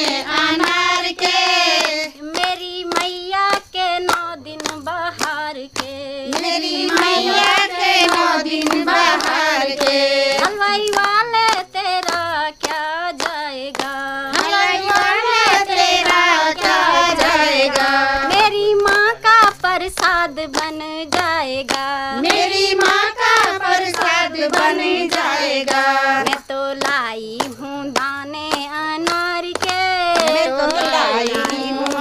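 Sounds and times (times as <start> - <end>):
steady hand clapping: 0.0 - 32.0
woman singing devotional song: 0.0 - 32.0.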